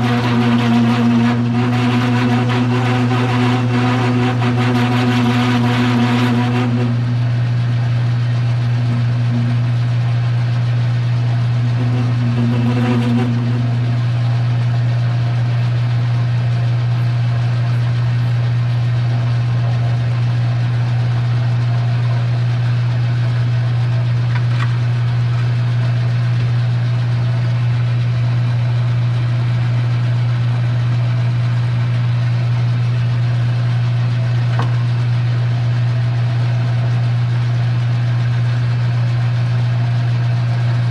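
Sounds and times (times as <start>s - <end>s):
lathe motor humming: 0.0s - 28.0s, 28.9s - 40.9s.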